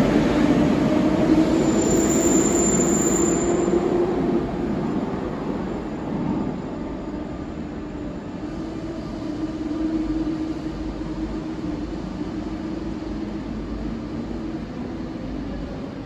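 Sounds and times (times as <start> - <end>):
electric train rumbling in tunnel: 0.0 - 16.0.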